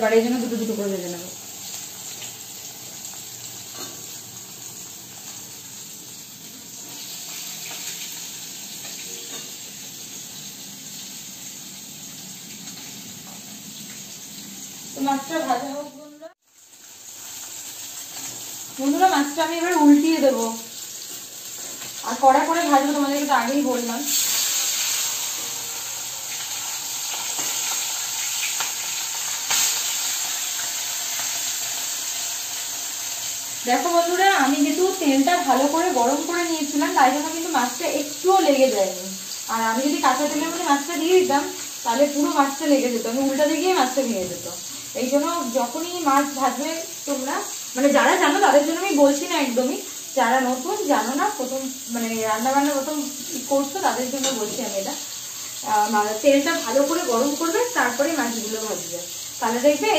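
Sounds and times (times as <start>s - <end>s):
fish sizzling in oil: 0.0s - 59.9s.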